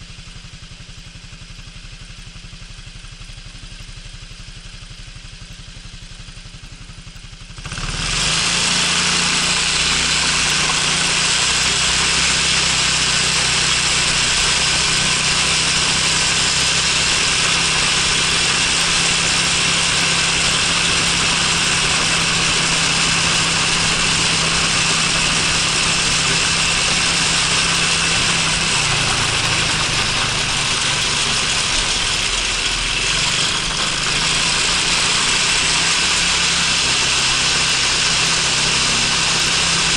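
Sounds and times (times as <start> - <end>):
scooter engine: 0.0 - 39.9.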